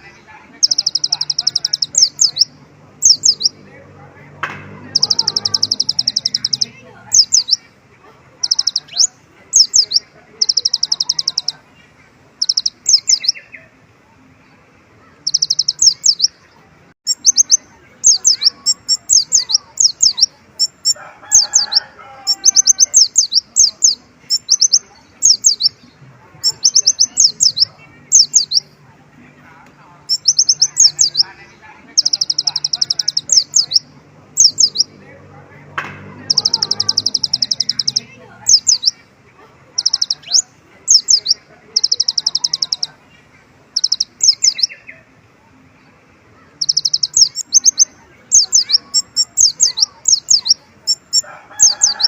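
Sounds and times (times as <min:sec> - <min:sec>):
bird twittering chirps and trills: 0:00.0 - 0:13.8, 0:14.4 - 0:28.8, 0:29.6 - 0:35.2, 0:35.8 - 0:52.0.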